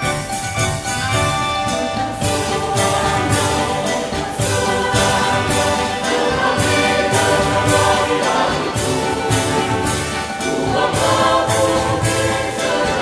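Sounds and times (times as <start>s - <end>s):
instrumental accompaniment: 0.0s - 13.0s
mixed choir singing: 0.0s - 13.0s.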